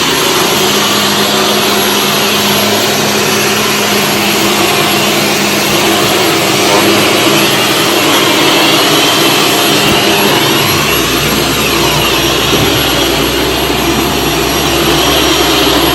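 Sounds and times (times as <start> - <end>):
vacuum cleaner motor whine: 0.0 - 15.9.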